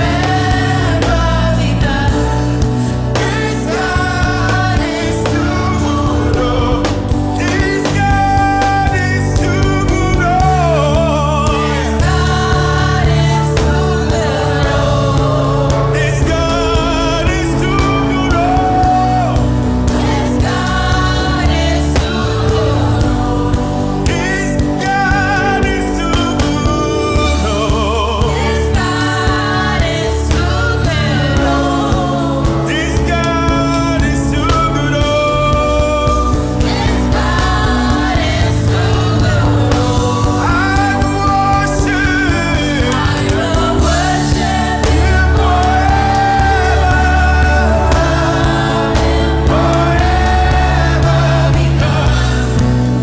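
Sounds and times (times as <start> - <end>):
band with steady bass: 0.0 - 53.0
gospel vocals on long notes: 0.0 - 53.0
sustained instrumental accompaniment: 0.0 - 53.0.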